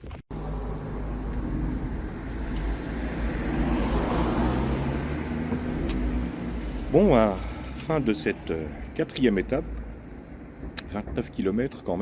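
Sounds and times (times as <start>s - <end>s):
car passing road noise: 0.3s - 11.5s
engine humming: 0.3s - 12.0s.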